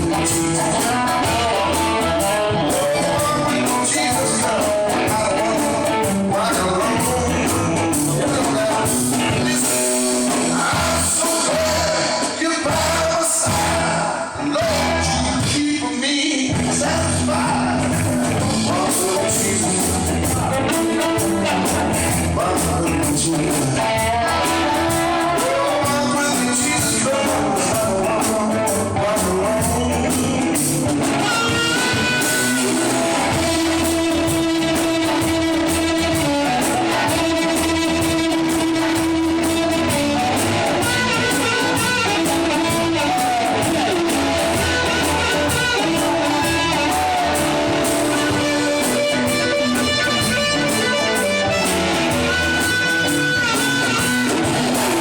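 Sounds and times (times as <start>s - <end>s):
drum kit: 0.0s - 55.0s
guitar: 0.0s - 55.0s
person singing: 0.0s - 55.0s.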